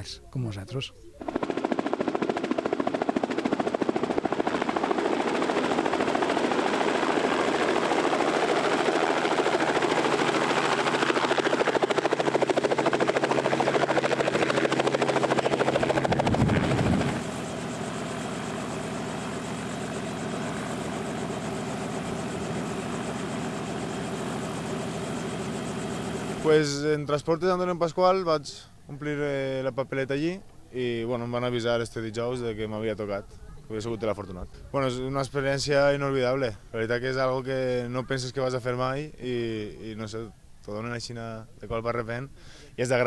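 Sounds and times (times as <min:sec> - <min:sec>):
helicopter rotor and engine: 0:00.7 - 0:27.6, 0:32.2 - 0:40.5.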